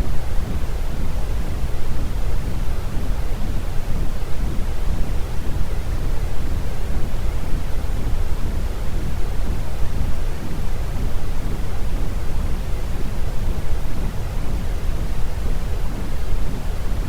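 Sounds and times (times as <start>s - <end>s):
continuous noise hiss: 0.0s - 17.0s.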